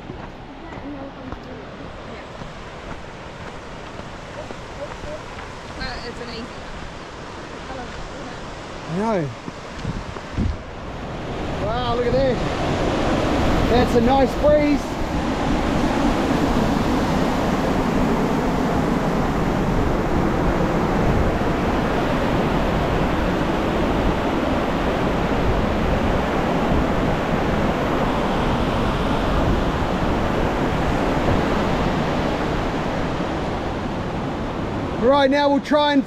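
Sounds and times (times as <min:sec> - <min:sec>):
white-water rushing: 0:00.0 - 0:36.0.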